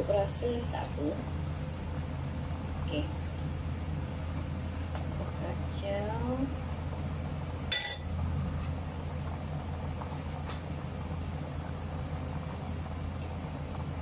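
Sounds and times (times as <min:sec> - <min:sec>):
soup boiling on gas burner: 0:00.0 - 0:14.0.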